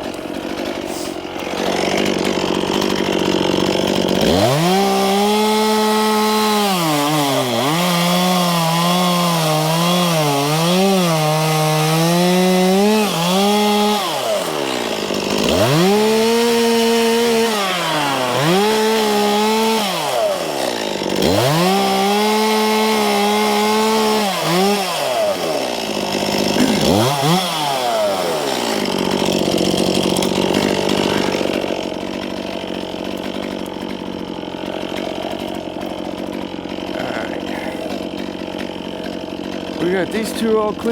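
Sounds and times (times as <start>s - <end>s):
chainsaw cutting and revving: 0.0s - 40.9s.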